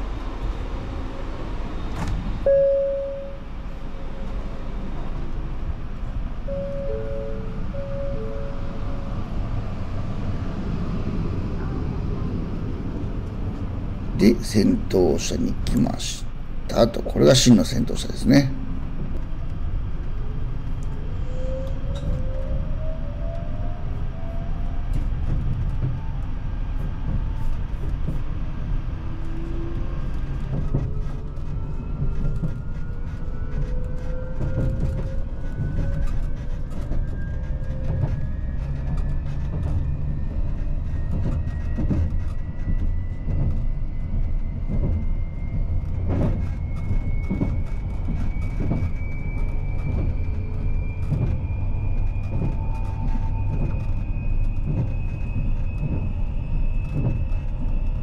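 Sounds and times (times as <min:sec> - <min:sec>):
train low rumble: 0:00.0 - 0:58.0
rail clicks: 0:01.9 - 0:23.5, 0:29.0 - 0:58.0.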